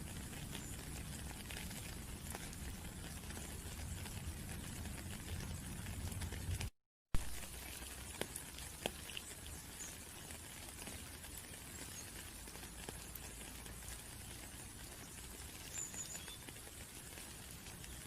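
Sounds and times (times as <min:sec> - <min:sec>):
rain hiss: 0:00.0 - 0:18.0
raindrop ticks: 0:00.0 - 0:18.0.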